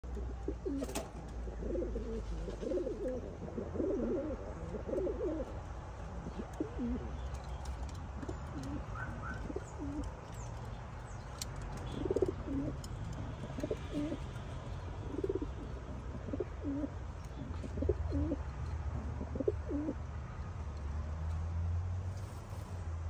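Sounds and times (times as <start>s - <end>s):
pigeons cooing: 0.1s - 10.5s, 11.8s - 20.0s.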